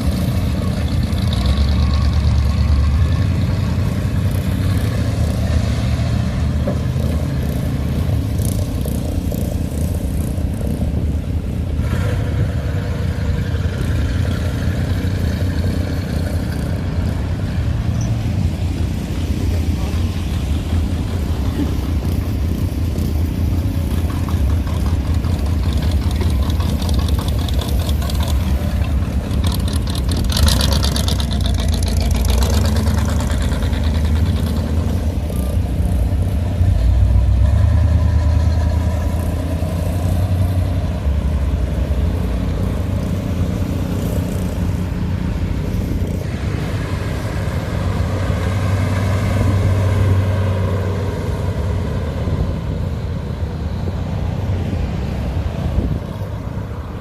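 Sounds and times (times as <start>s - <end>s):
cars driving past: 0.0s - 57.0s.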